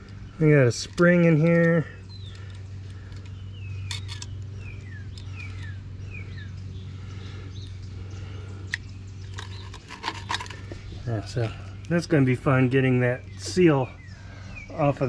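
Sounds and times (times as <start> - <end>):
bird singing falling notes: 0.0 - 15.0
low hum: 0.0 - 15.0.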